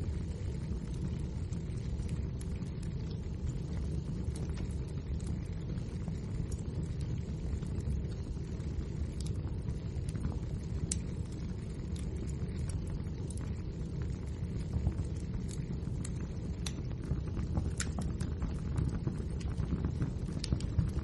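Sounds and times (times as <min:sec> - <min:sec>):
burning logs crackling and popping: 0:00.0 - 0:21.0
fire flames rumbling: 0:00.0 - 0:21.0.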